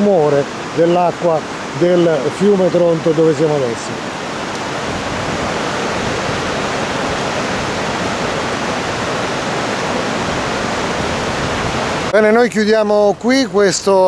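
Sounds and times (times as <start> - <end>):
flooded river rushing: 0.0 - 14.0.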